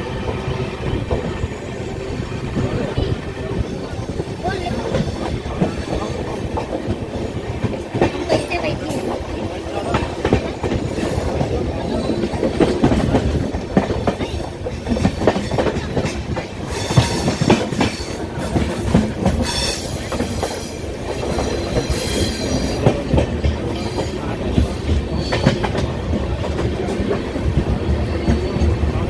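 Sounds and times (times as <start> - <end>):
rail joint clicks and knocks: 0.0 - 29.0
train wheels running on track: 0.0 - 29.0.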